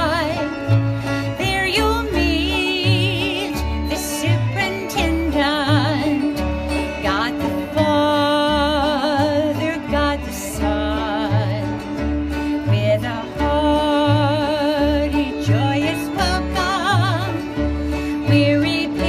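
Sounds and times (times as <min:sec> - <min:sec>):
bluegrass band playing: 0:00.0 - 0:19.0
woman singing: 0:00.0 - 0:19.0.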